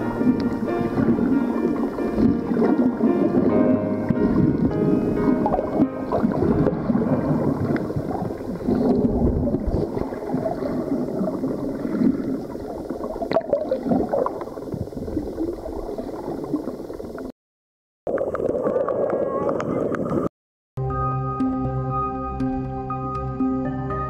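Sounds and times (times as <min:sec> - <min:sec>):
underwater gurgling and bubbling: 0:00.0 - 0:17.3, 0:18.1 - 0:20.3.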